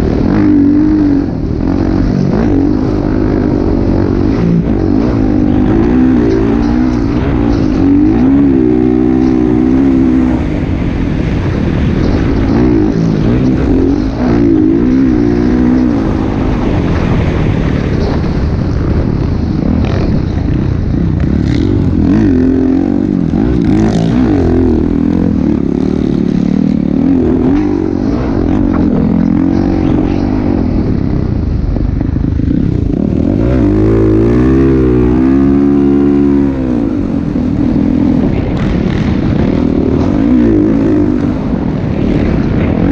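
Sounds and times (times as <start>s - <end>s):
motocross bike engines revving: 0.0s - 42.9s.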